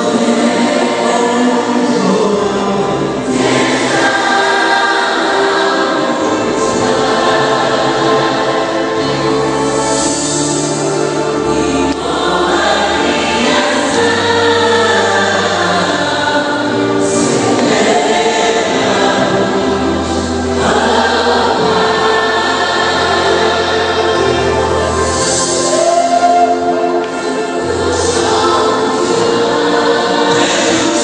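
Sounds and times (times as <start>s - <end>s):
choir singing gospel song: 0.0s - 31.0s
held bass notes: 0.0s - 31.0s.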